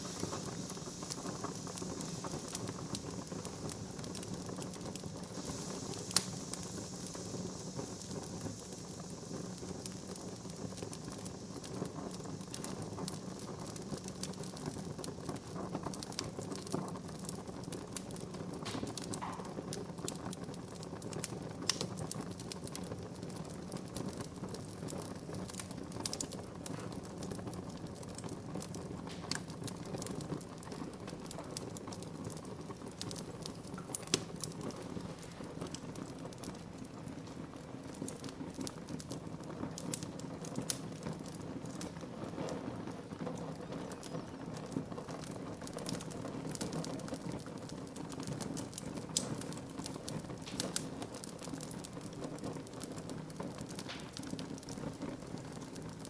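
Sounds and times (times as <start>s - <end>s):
burning wood crackling and popping: 0.0s - 56.0s
fire rushing: 0.0s - 56.0s.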